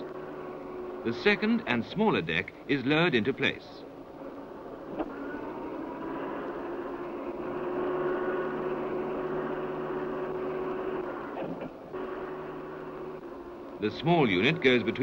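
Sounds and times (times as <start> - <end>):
crane winch humming: 0.0 - 2.4, 3.8 - 15.0.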